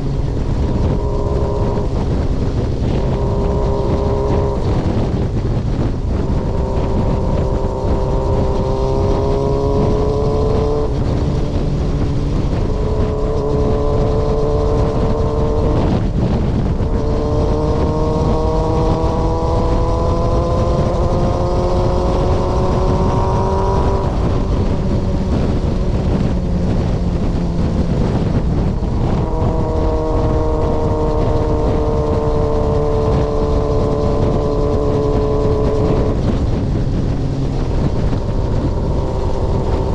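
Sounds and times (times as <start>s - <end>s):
motorcycle engine revving: 0.0s - 39.9s
wind rumble: 0.0s - 39.9s.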